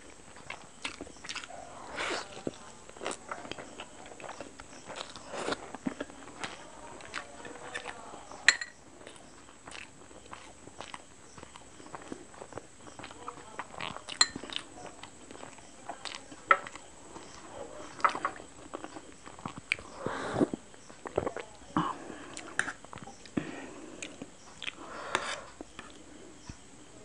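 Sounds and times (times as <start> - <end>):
person chewing noodles: 0.0 - 26.2.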